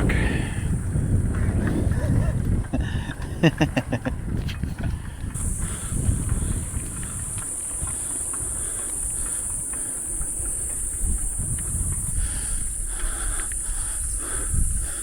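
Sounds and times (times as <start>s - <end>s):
wind and riding noise: 0.0s - 15.0s.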